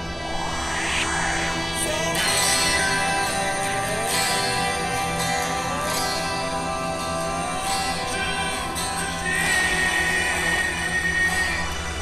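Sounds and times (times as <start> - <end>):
guitar music: 0.0 - 12.0
sliding guitar line: 0.0 - 12.0.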